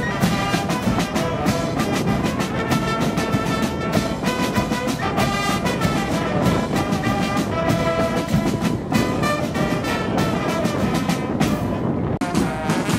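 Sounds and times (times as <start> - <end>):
drums: 0.0 - 12.9
trumpets and trombones playing: 0.0 - 12.9.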